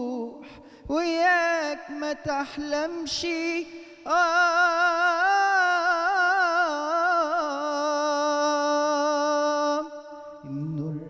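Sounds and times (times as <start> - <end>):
man singing with vibrato: 0.0 - 11.0.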